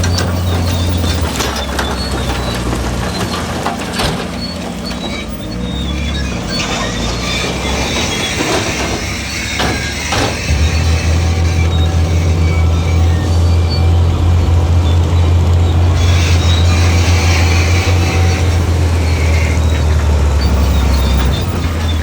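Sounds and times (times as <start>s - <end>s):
diesel machinery engine drone: 0.0s - 22.0s
metallic rattling and squeaking: 0.0s - 22.0s.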